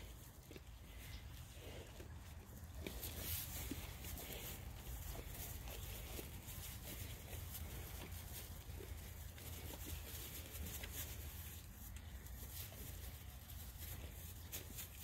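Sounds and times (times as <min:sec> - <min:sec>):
hooves pattering on straw: 0:00.0 - 0:15.0
steady low rumble: 0:00.0 - 0:15.0.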